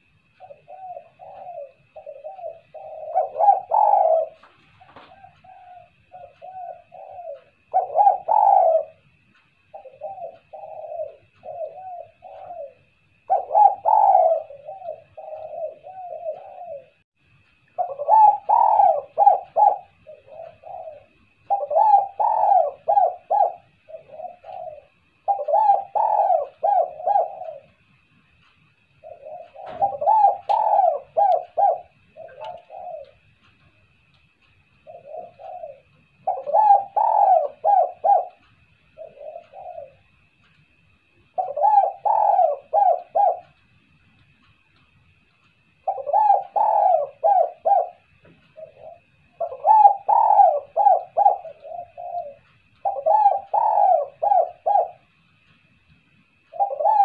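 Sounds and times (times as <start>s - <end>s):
dove cooing: 0.0s - 43.8s, 45.7s - 55.5s, 56.3s - 57.0s.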